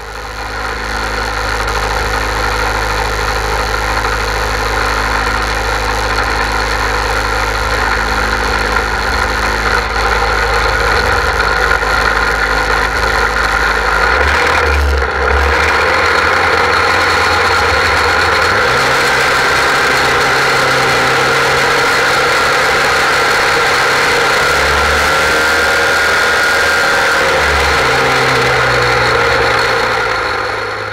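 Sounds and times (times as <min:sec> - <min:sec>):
fire pump engine running hard: 0:00.0 - 0:30.9.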